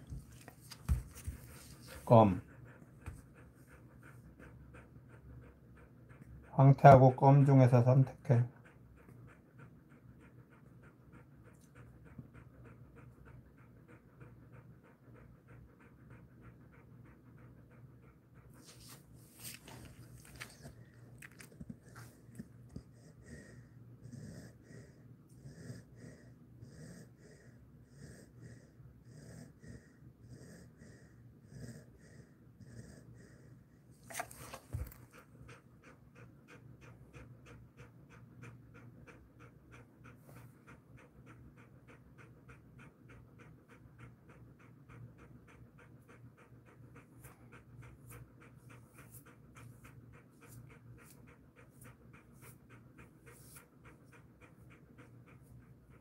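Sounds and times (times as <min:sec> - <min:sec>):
dog breathing softly: 0:00.0 - 0:56.0
dog panting: 0:00.0 - 0:56.0.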